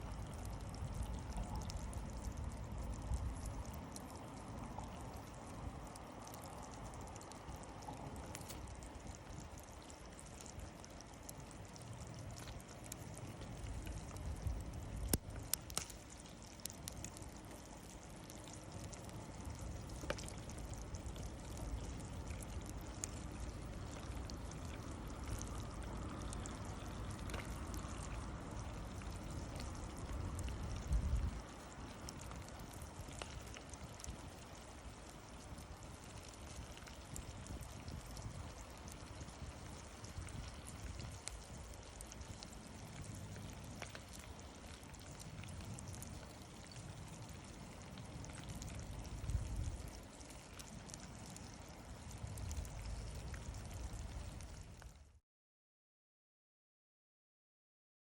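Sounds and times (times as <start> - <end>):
campfire hissing: 0.0 - 54.7
fire crackling and popping: 0.0 - 55.1.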